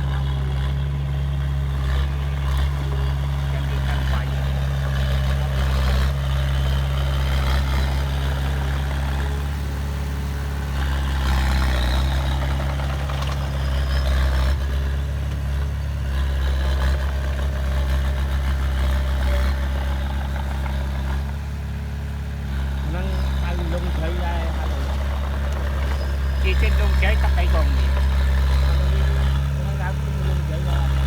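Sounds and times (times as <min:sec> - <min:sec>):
heavy equipment engine hum: 0:00.0 - 0:31.0.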